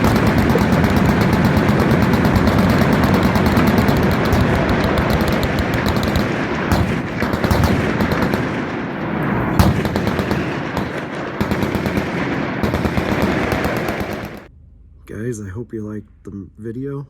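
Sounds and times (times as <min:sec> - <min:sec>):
machine gun fire: 0:00.0 - 0:14.5.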